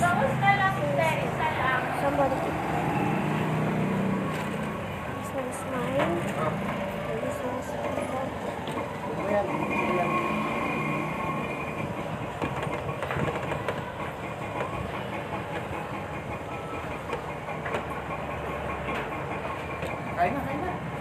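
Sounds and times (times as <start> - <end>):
street background noise: 0.0 - 21.0.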